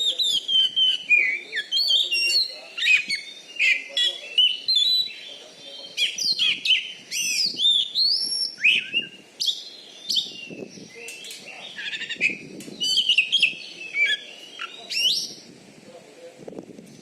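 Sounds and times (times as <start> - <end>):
bird singing whistled phrases: 0.0 - 15.4.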